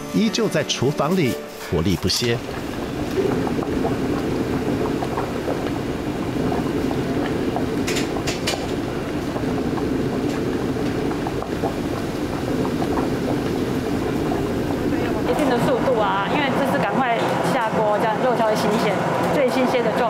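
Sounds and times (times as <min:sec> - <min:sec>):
pot boiling and bubbling: 0:00.0 - 0:20.0.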